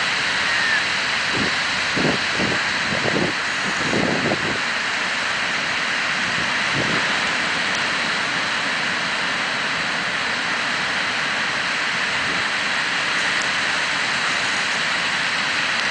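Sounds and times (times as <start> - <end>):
ocean surf breaking on sand: 0.0 - 15.9.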